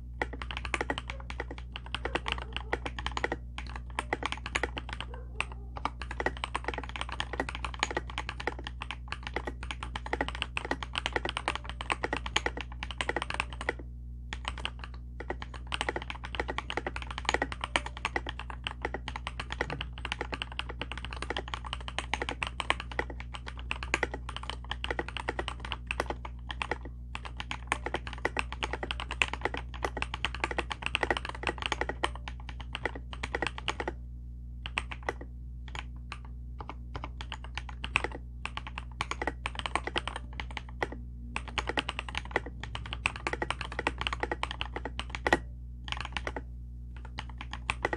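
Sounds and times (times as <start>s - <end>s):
steady low hum: 0.0s - 47.9s
mechanical keyboard typing: 0.2s - 34.0s, 34.6s - 47.9s.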